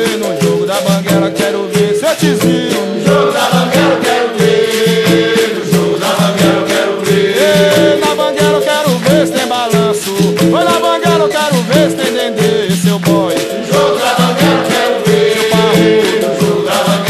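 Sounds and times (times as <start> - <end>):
berimbau rhythm: 0.0 - 17.0
shaker rattles: 0.0 - 17.0
voices singing: 0.0 - 17.0.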